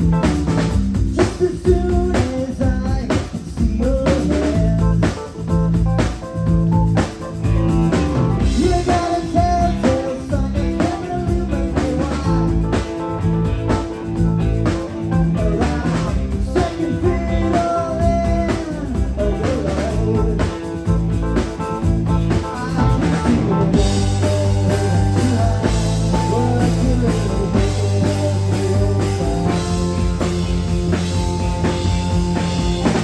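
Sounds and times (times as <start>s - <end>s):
rock music: 0.0s - 33.0s.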